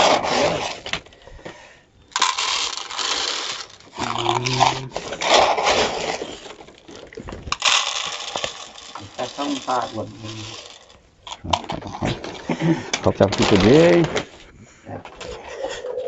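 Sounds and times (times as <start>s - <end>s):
rustling and scraping: 0.0s - 16.0s.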